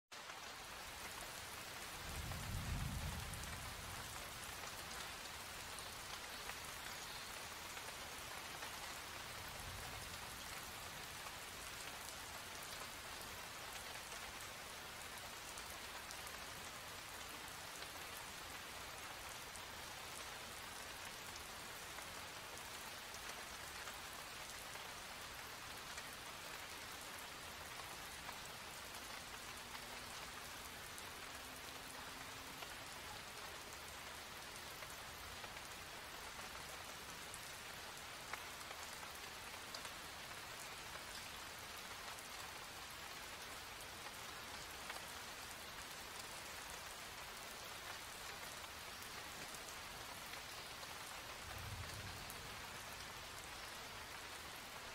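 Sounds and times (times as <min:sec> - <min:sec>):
steady rain on hard surfaces: 0:00.1 - 0:54.9.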